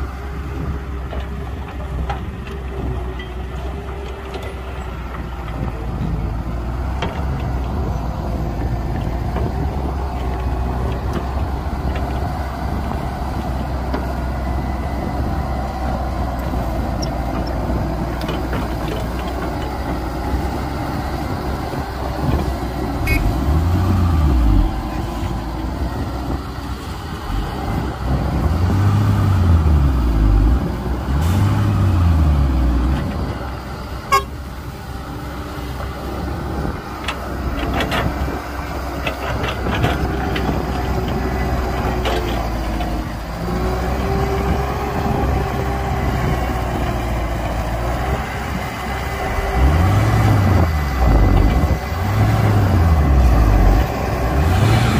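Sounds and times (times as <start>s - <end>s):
diesel machinery engine running: 0.0s - 54.9s.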